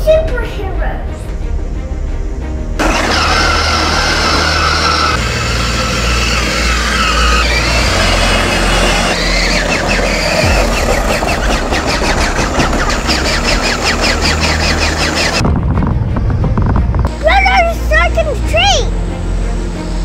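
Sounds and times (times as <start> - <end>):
ride-on toy truck rumbling and whining: 2.8 - 20.0.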